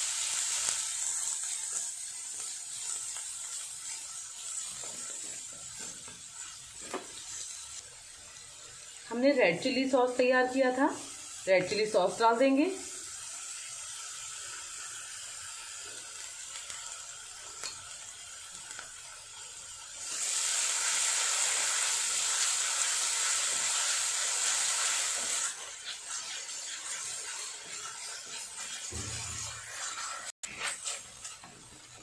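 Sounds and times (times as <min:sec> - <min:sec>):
vegetables sizzling in hot oil: 0:00.0 - 0:32.0.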